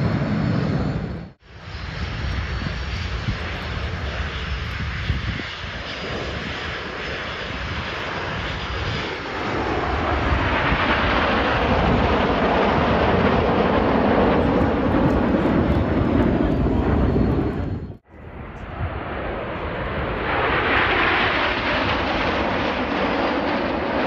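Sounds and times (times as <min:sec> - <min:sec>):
jet aircraft flying past: 0:00.0 - 0:24.0.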